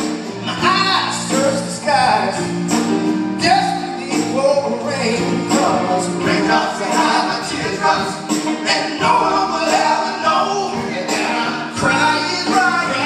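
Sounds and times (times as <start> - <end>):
man singing: 0.0 - 2.6, 3.4 - 13.0
live soul band playing: 0.0 - 13.0.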